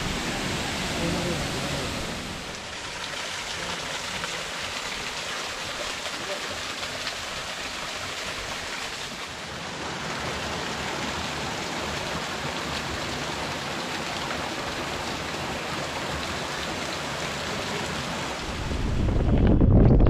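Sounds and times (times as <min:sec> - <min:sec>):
waterfall rushing: 0:00.0 - 0:19.1.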